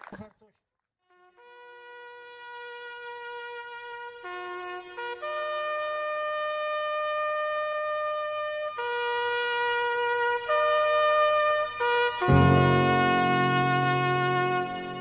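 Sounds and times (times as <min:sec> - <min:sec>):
trumpet-like melody: 0:01.0 - 0:15.0.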